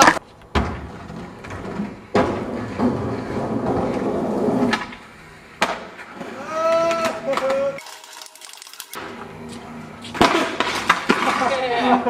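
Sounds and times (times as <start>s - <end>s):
skateboard wheels rolling: 0.0s - 12.0s.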